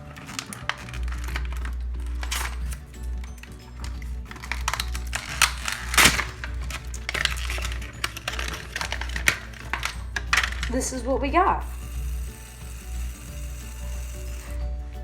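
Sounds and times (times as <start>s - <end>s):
plastic packaging rustling: 0.0s - 14.7s
background music: 0.0s - 15.0s.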